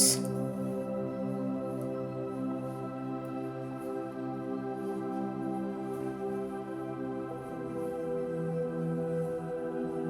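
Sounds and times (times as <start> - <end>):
ambient new-age music: 0.0 - 10.0.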